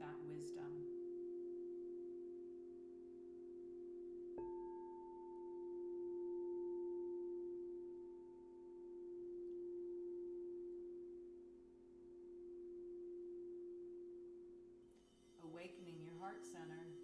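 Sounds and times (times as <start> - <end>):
crystal singing bowl ringing: 0.0 - 17.0.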